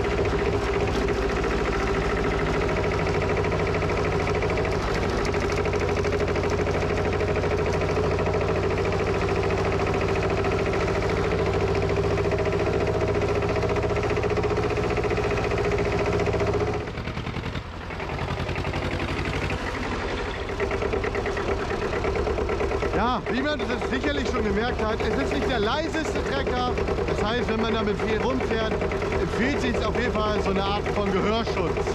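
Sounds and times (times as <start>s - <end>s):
tractor diesel engine chugging: 0.0s - 31.9s.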